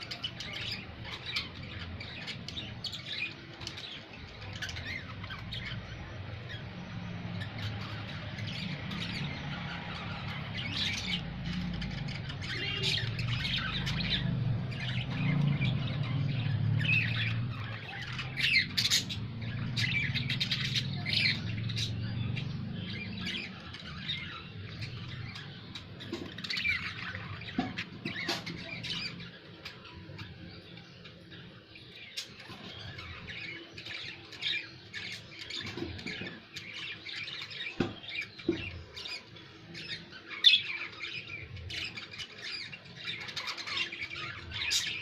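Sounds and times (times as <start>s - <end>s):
lovebirds squawking and chirping: 0.0s - 45.0s.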